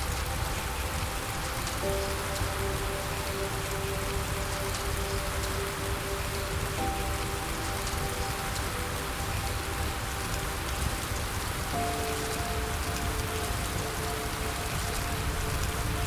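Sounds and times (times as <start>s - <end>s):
soft sustained music chords: 0.0s - 16.0s
steady rain falling: 0.0s - 16.0s.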